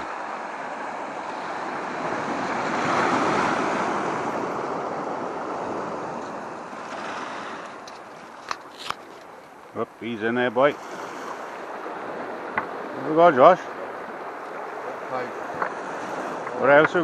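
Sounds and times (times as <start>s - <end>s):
waves washing over pebbles: 0.0s - 17.0s.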